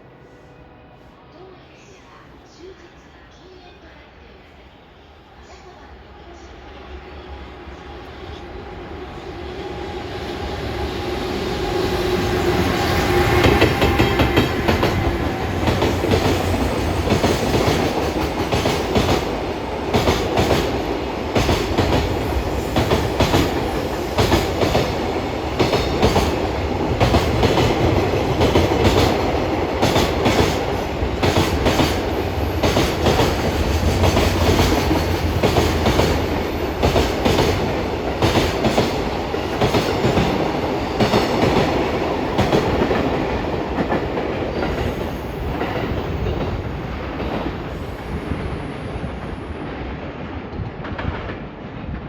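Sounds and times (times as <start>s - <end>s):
electric locomotive passing: 0.0s - 52.0s.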